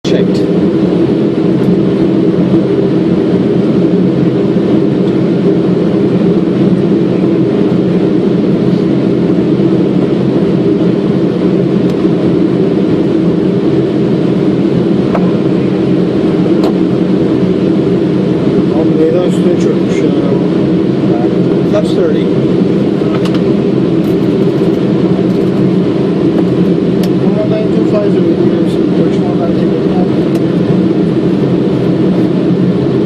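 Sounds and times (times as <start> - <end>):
airflow and engine noise in cockpit: 0.0 - 33.0.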